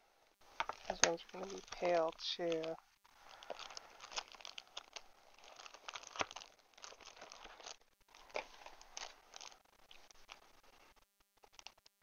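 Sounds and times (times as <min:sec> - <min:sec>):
plastic packet crinkling: 0:00.5 - 0:10.8, 0:11.4 - 0:12.0.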